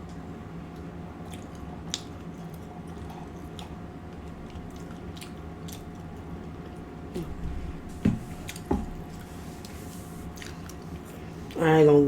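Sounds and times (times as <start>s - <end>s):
person chewing food: 0.0s - 11.5s
steady low hum: 0.0s - 12.0s.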